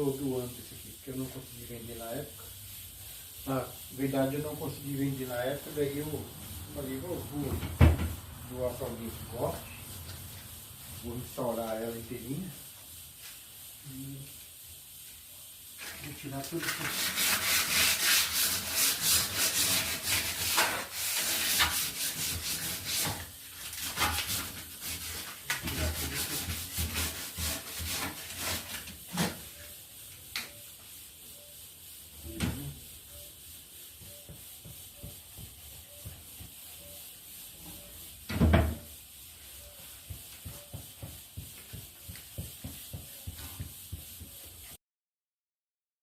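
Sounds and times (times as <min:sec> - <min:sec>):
sandpaper rubbing on wood: 0:00.0 - 0:07.6, 0:08.2 - 0:44.8.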